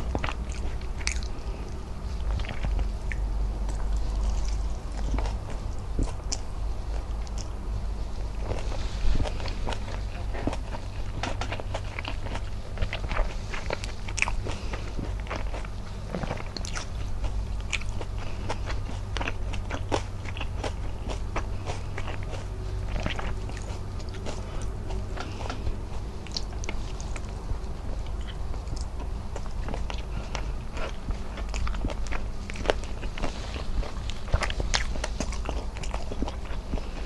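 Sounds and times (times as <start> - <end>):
person chewing and lip smacking: 0.0 - 7.6, 8.2 - 37.0
low steady hum: 0.0 - 37.0.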